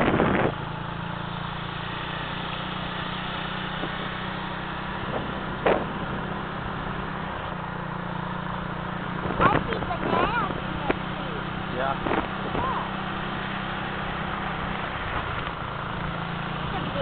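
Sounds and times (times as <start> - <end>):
motorcycle engine cruising: 0.0 - 17.0
road and wind noise: 0.0 - 17.0.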